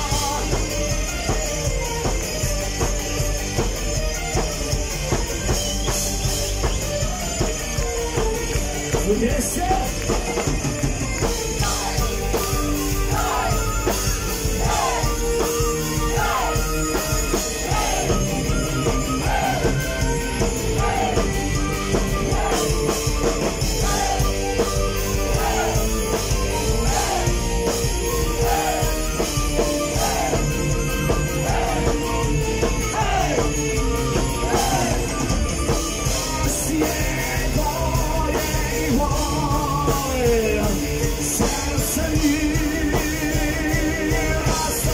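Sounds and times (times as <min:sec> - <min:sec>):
live rock band playing: 0:00.0 - 0:44.9.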